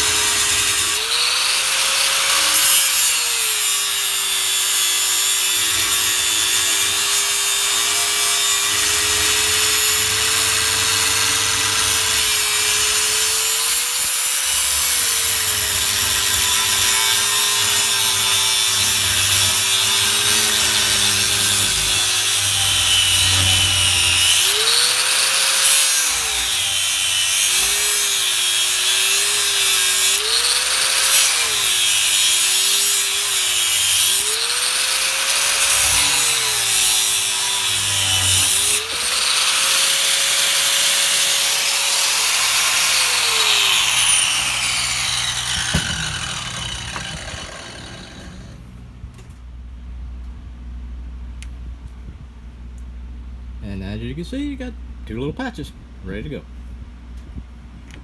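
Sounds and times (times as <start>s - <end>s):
power tool motor whine: 0.0s - 48.8s.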